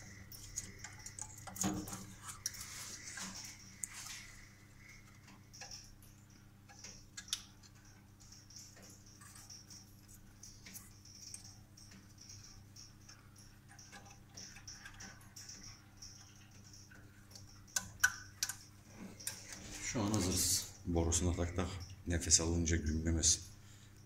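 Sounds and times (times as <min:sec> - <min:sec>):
faint clicks and ticks: 0:00.0 - 0:24.0
low steady hum: 0:00.0 - 0:24.0.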